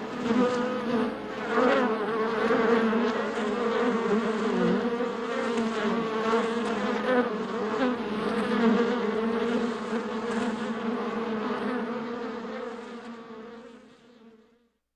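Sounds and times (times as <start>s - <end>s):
bees buzzing: 0.0s - 13.8s.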